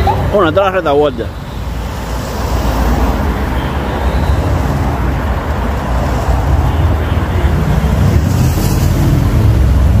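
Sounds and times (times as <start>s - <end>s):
vans driving past: 0.0s - 10.0s.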